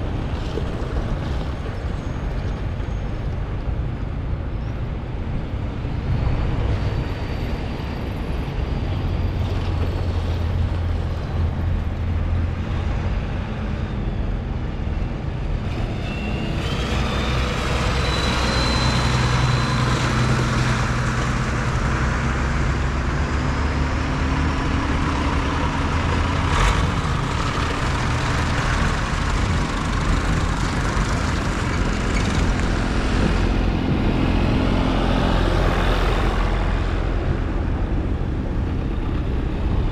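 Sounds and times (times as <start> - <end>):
tractor diesel engines running: 0.0 - 39.9.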